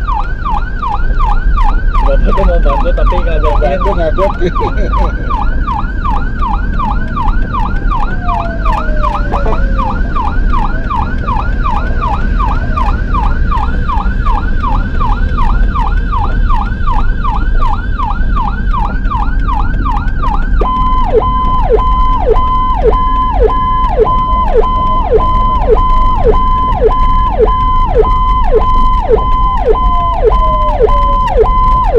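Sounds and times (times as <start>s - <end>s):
ambulance siren: 0.0s - 31.9s
engine and road rumble: 0.0s - 31.9s.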